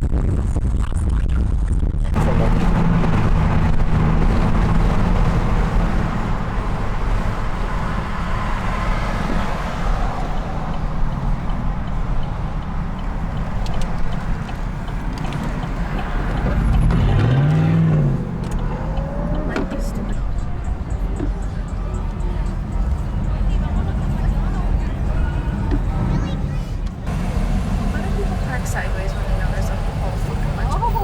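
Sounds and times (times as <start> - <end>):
heavy traffic and road noise: 0.0 - 31.0
engine revving: 2.2 - 31.0.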